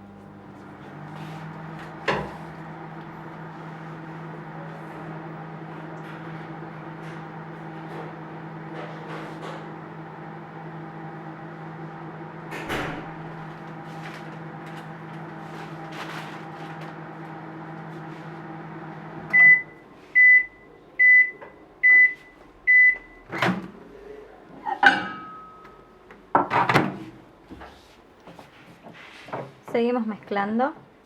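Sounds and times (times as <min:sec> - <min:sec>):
microwave oven humming: 0:00.0 - 0:29.1.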